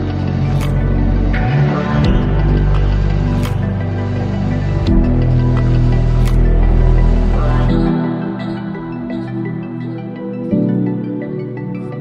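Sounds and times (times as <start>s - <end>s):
dark electronic music: 0.0s - 12.0s.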